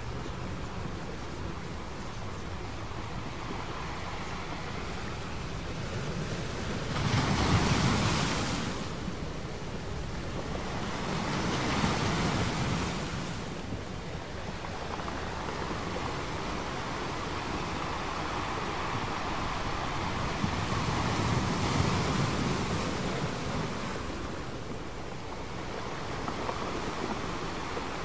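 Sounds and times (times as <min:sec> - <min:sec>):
ocean waves hissing surf: 0:00.0 - 0:28.0.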